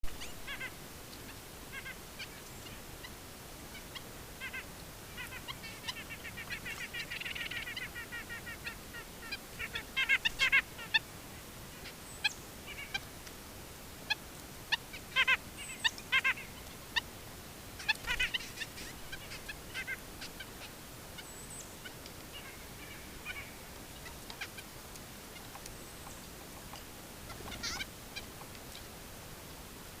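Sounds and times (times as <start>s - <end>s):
faint steady hiss: 0.0s - 30.0s
nuthatches calling: 0.1s - 11.0s, 14.7s - 17.1s, 17.8s - 28.9s.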